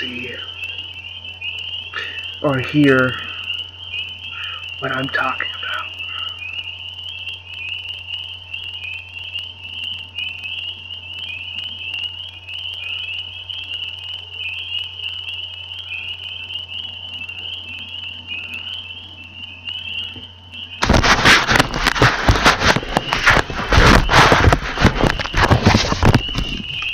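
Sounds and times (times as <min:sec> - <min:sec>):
frogs trilling: 0:00.0 - 0:26.9
low hum: 0:00.0 - 0:26.9.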